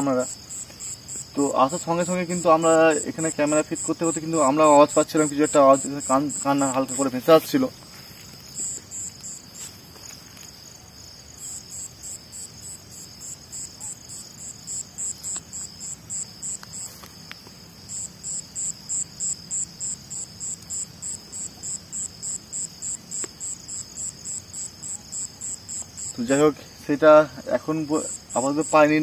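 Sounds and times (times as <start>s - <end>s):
cricket chirping: 0.0s - 29.0s
high insect trill: 0.0s - 29.0s.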